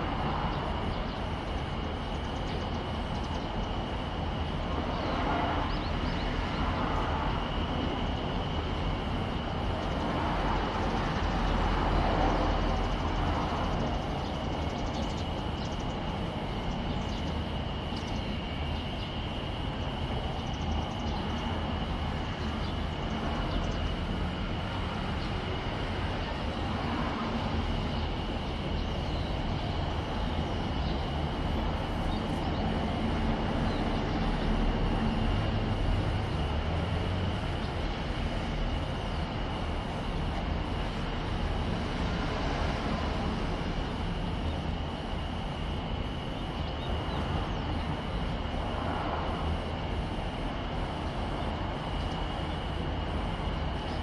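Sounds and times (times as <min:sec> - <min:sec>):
high-pitched whine: 0:00.0 - 0:54.0.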